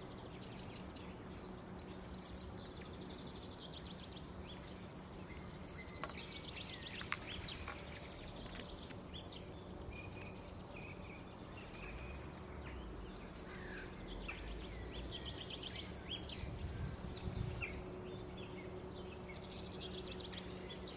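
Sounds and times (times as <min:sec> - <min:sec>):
low background noise: 0:00.0 - 0:20.9
small songbirds singing: 0:00.0 - 0:20.9.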